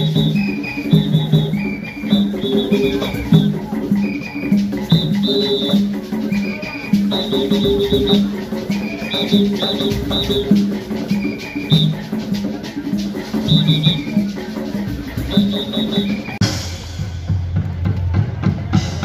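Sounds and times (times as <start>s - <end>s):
drum-led music: 0.0s - 19.0s
street band with drums and rattles: 0.0s - 19.0s.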